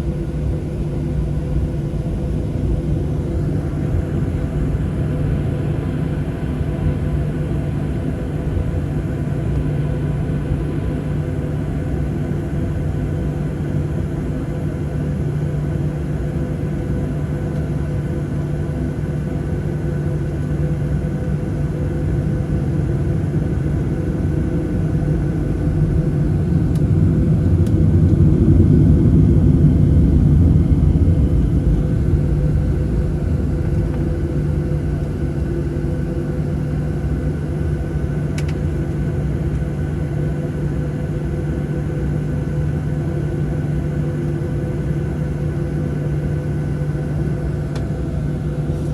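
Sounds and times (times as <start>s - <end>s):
jet engines rumbling: 0.0s - 17.3s, 21.4s - 48.9s.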